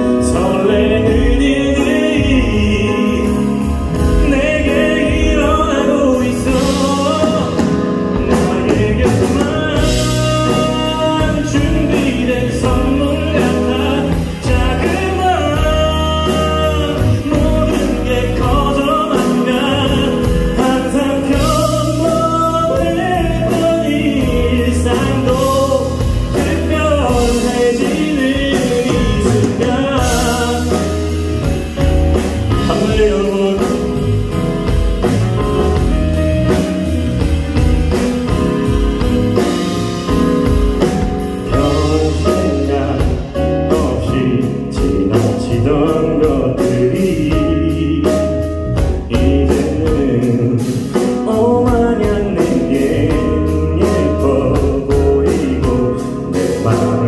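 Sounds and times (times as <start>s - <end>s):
man singing into microphone: 0.0s - 36.6s, 39.4s - 57.0s
live band playing: 0.0s - 57.0s.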